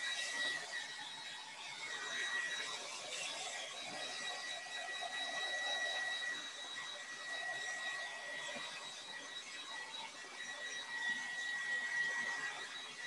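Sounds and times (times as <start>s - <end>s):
hair dryer whine: 0.0s - 12.8s.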